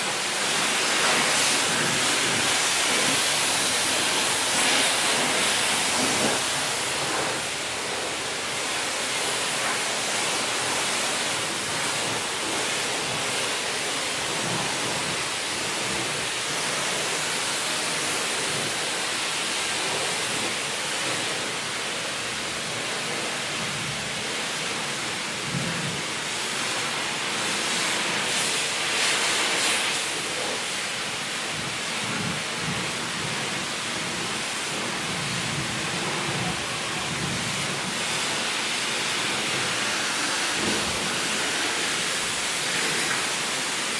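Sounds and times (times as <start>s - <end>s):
water spray spattering on car: 0.0s - 43.9s.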